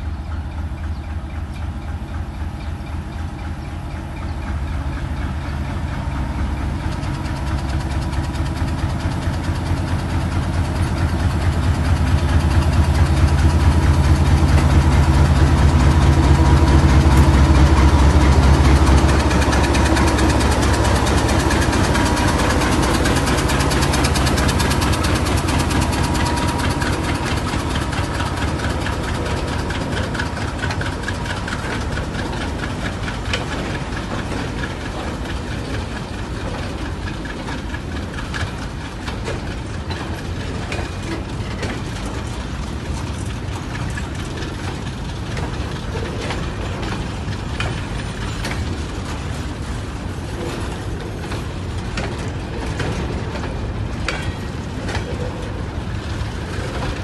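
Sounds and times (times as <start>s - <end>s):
diesel locomotive engines throbbing: 0.0s - 57.0s
freight wagon wheels clattering: 6.8s - 57.0s.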